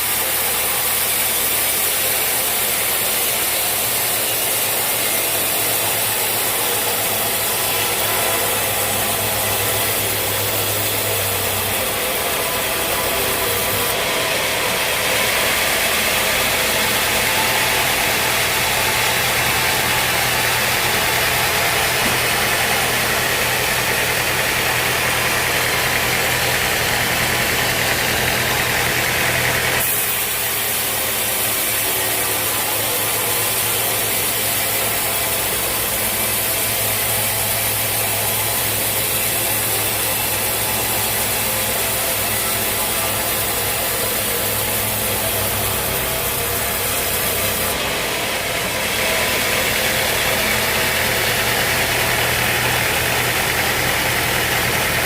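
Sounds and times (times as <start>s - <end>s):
bright harsh machine sound: 0.0s - 55.0s
sawmill machinery running: 0.0s - 55.0s.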